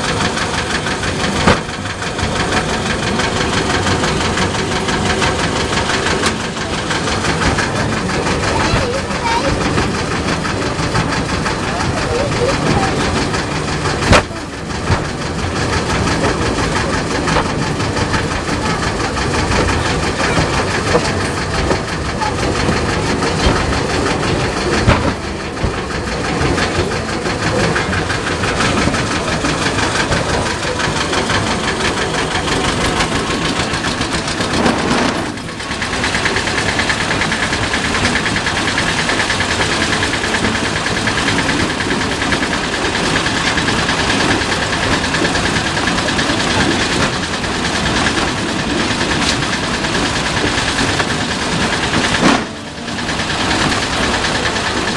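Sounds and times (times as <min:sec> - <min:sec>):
small train engine running: 0:00.0 - 0:54.9
steady high whine: 0:00.0 - 0:54.9.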